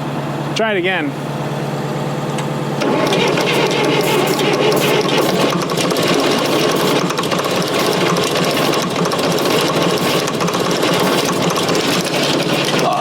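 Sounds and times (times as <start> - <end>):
diesel engine cranking on starter: 2.1 - 13.0.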